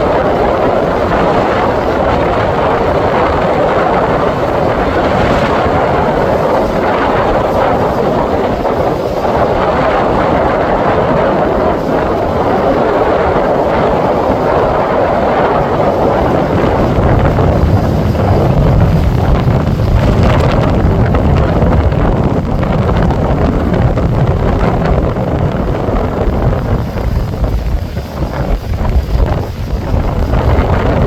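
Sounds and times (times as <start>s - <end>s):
heavy surf: 0.0s - 31.0s
wind buffeting microphone: 0.0s - 31.0s.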